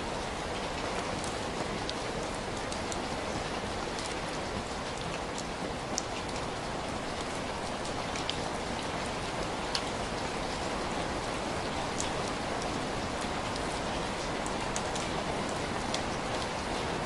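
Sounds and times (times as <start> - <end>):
steady rain: 0.0 - 17.0
raindrops ticking: 0.1 - 16.9.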